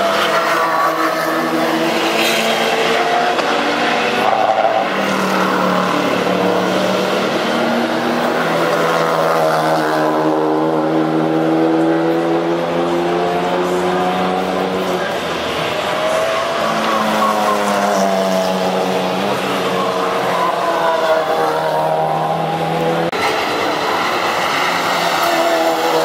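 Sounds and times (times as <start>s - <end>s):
race car engines accelerating: 0.0s - 26.0s.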